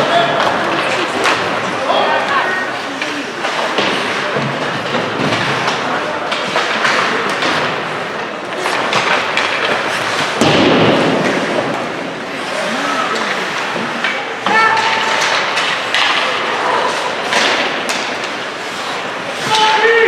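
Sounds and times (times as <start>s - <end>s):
crowd noise: 0.0s - 20.0s
puck and players hitting boards: 0.0s - 20.0s.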